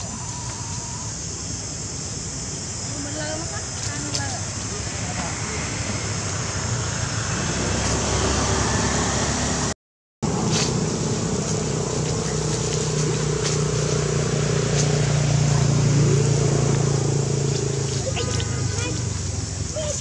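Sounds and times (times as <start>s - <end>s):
broad rushing noise: 0.0s - 20.0s
low engine hum: 3.2s - 20.0s.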